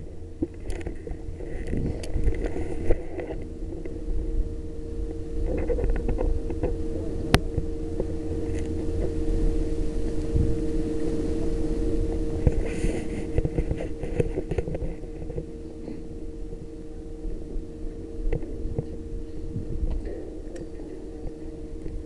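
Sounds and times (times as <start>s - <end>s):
steady low hum: 0.0s - 22.0s
wind rumbling on microphone: 0.0s - 22.0s.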